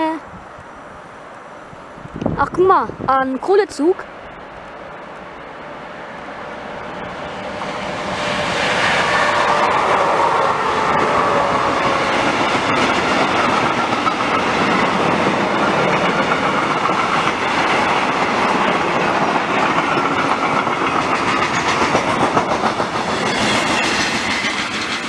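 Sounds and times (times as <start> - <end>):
train wheels on rails: 1.6 - 25.0.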